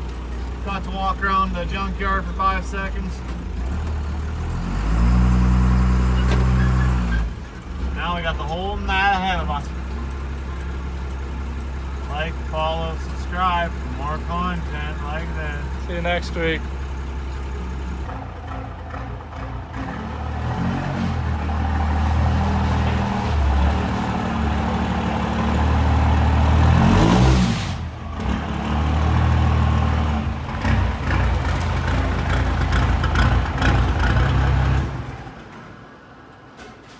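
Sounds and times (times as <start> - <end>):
diesel truck engine revving: 0.0 - 35.4.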